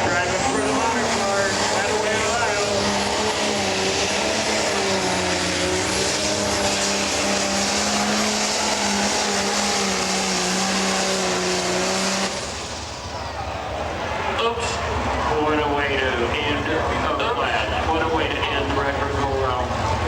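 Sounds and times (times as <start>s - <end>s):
diesel engine running at high revs: 0.0s - 20.0s.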